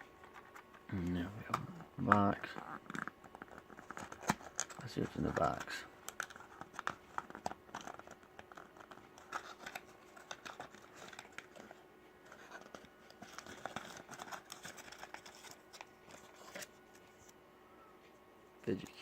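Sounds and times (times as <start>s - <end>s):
cardboard and plastic packaging handled: 0.0s - 17.4s.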